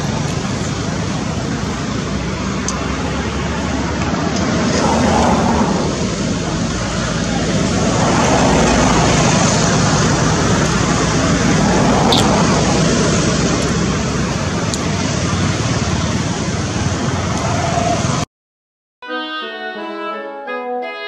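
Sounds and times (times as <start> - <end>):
outdoor background noise: 0.0 - 18.3.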